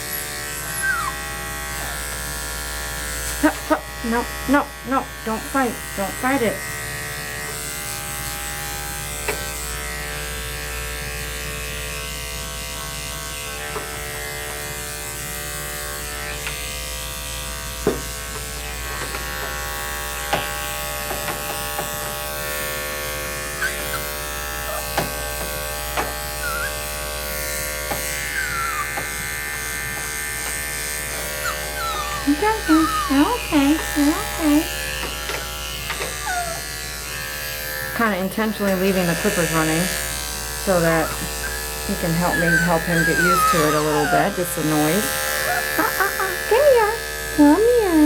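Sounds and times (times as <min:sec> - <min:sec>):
electric clippers buzzing: 0:00.0 - 0:48.0.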